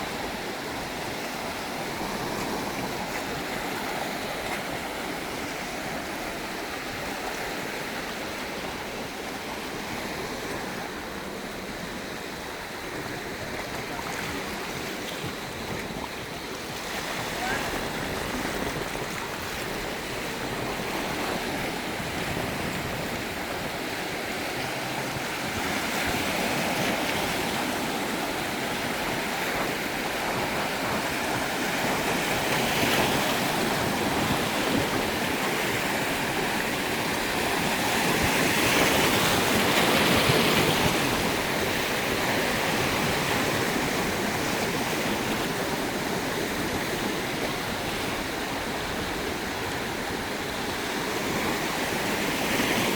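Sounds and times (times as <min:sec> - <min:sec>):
waves washing ashore: 0:00.0 - 0:52.9.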